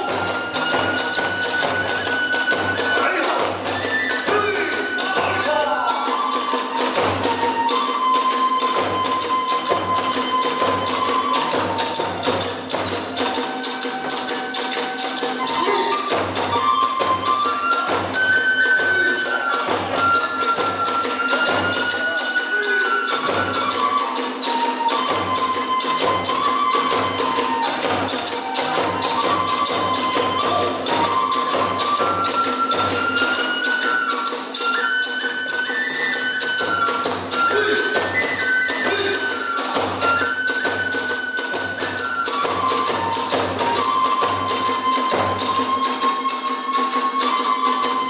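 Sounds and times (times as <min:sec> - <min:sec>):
bamboo flute melody: 0:00.0 - 0:48.0
small hand cymbals: 0:00.0 - 0:48.0
taiko drums beating: 0:00.0 - 0:48.0.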